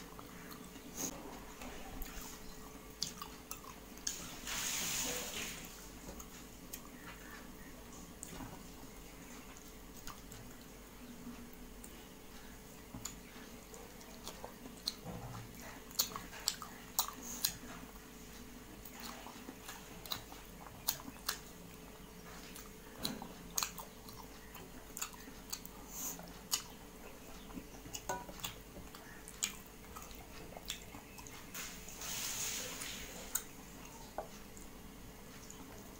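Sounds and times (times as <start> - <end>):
person chewing food: 0.0 - 4.4, 5.8 - 32.0, 32.8 - 35.9
faint steady hum: 0.0 - 35.9.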